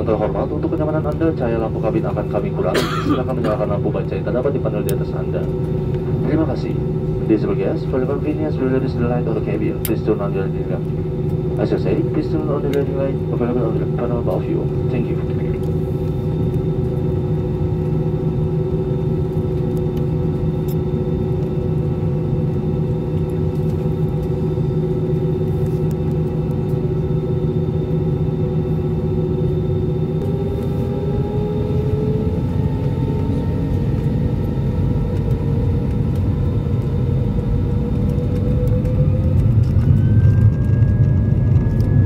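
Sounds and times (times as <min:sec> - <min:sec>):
jet engines droning whine: 0:00.0 - 0:42.0
low rumble of rolling plane: 0:00.0 - 0:42.0.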